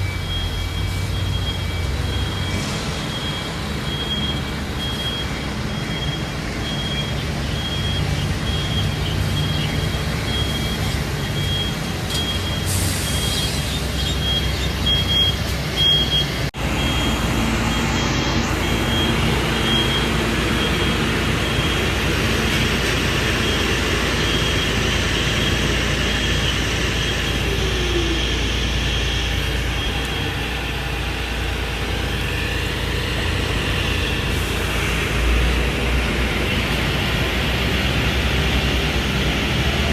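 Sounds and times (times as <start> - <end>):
diesel truck engine running: 0.0 - 39.9
reversing alarm beeping: 0.0 - 39.9.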